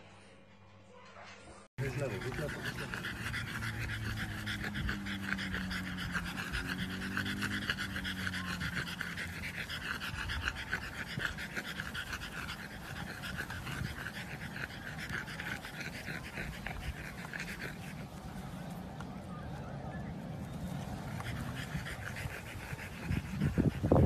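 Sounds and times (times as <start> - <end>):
dog panting: 1.8 - 18.8, 20.4 - 24.0.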